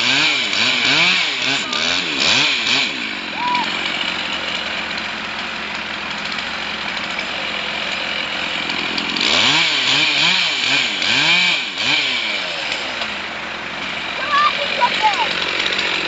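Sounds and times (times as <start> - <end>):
chainsaw revving and cutting wood: 0.0 - 16.0.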